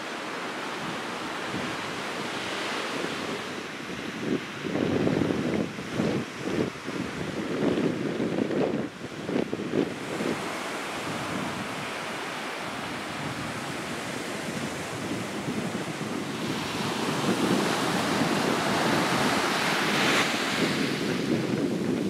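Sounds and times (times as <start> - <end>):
small waves breaking on sand: 0.0 - 22.0
wind on microphone: 0.0 - 22.0.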